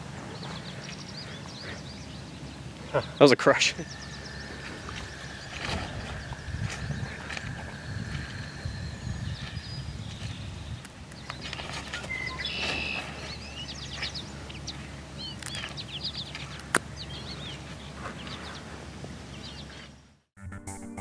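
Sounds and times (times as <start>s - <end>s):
steady low rumble: 0.0s - 19.7s
songbirds chirping: 0.0s - 20.2s.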